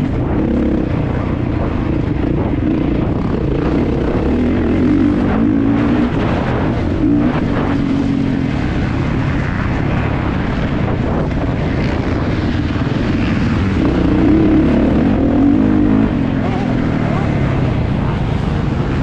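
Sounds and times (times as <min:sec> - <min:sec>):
wind rush: 0:00.0 - 0:19.0.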